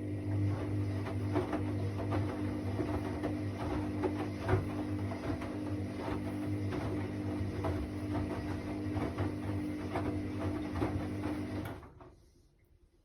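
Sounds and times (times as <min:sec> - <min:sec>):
washing machine motor hum: 0:00.0 - 0:12.5.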